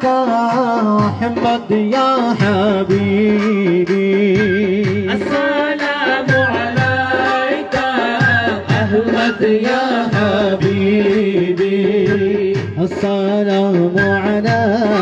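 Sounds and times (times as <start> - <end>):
devotional song over loudspeakers: 0.0 - 15.0
hand-drum beats: 0.0 - 15.0.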